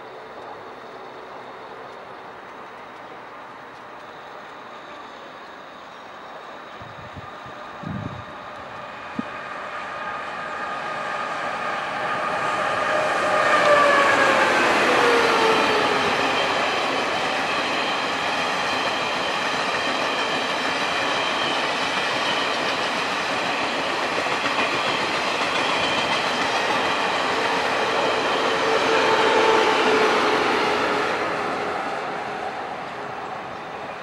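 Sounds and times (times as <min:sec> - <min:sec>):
electric locomotive whine: 0:00.0 - 0:34.0
train rushing with wheel clatter: 0:00.0 - 0:34.0.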